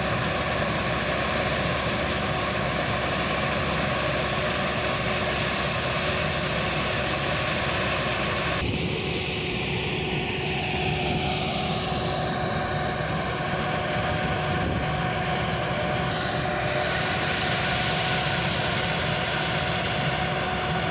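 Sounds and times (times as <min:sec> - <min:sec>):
tractor engine humming: 0:00.0 - 0:20.9.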